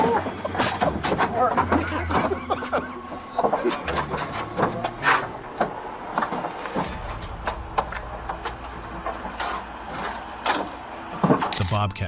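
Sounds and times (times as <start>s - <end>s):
vehicle engine hum: 0.0s - 11.5s.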